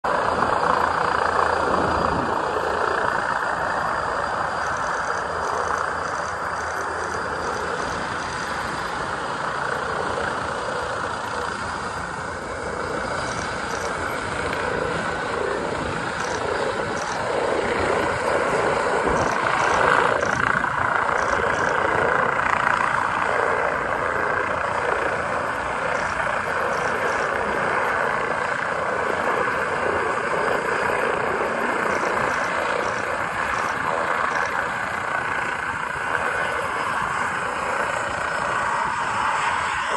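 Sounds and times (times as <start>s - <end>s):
distant helicopter drone: 0.0s - 39.9s.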